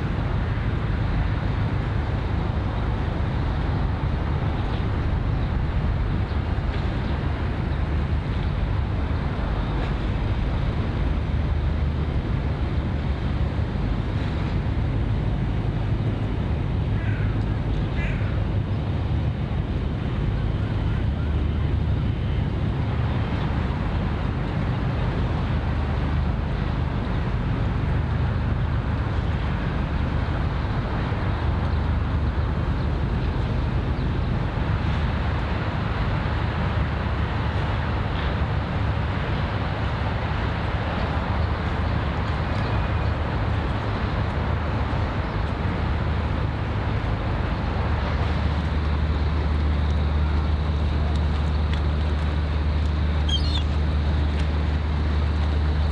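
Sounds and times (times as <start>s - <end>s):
constant hum: 0.0s - 55.9s
ship engine rumble: 0.0s - 55.9s.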